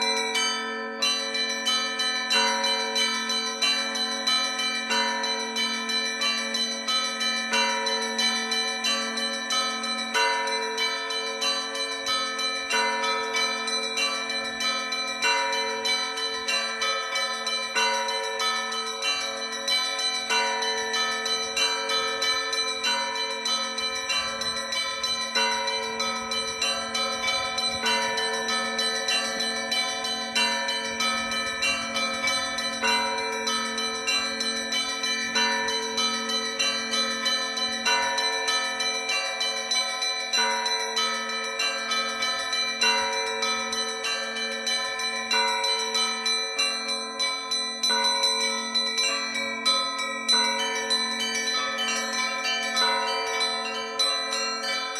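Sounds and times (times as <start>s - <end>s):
small church bells ringing: 0.0s - 54.9s.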